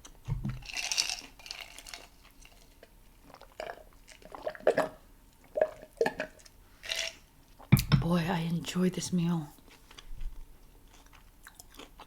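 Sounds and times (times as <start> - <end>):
close chewing and mouth sounds: 0.0 - 7.8, 9.6 - 12.0.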